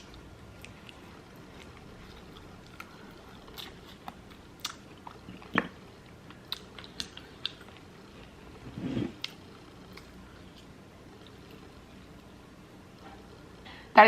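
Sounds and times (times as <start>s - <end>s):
chewing and mouth clicks: 0.0s - 8.4s, 9.2s - 12.3s.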